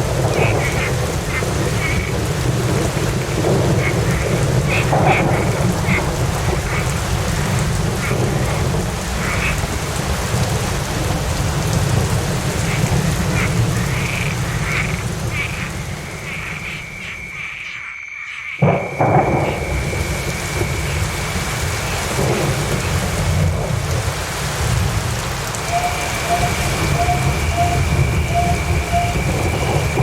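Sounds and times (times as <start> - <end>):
low rumble of thunder: 0.0 - 17.3, 18.6 - 30.0
steady rain: 0.0 - 17.5, 18.6 - 30.0.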